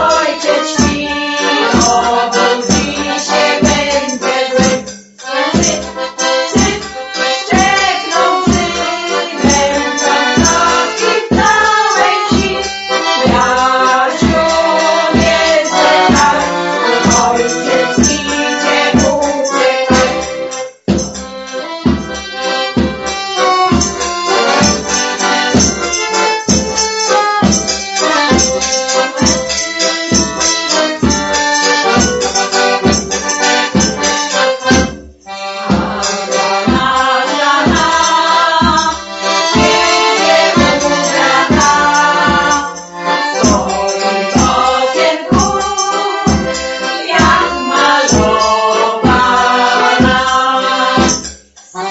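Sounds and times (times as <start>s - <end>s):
accordion folk tune: 0.0s - 51.9s
steady beat: 5.4s - 50.4s.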